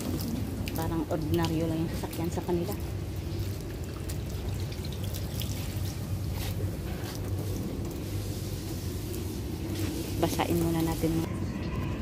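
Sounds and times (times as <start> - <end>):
water running from garden hose: 0.0 - 11.3.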